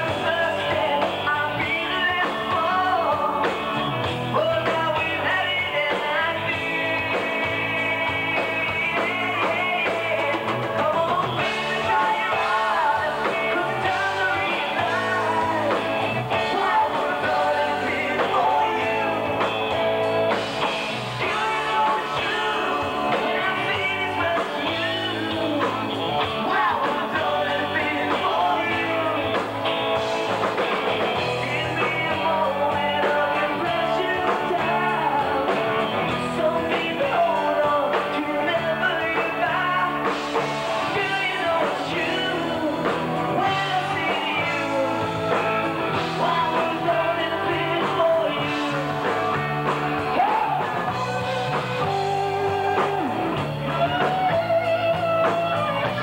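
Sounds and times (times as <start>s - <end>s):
bass guitar: 0.0s - 56.0s
drums: 0.0s - 56.0s
electric guitar: 0.0s - 56.0s
person singing lead vocals: 0.0s - 56.0s.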